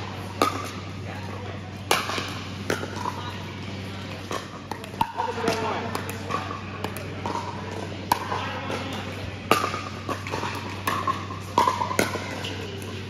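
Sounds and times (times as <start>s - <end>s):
steady low hum: 0.0s - 13.0s
pickleball paddle hits and bounces: 0.4s - 0.8s, 1.9s - 3.2s, 4.2s - 12.9s.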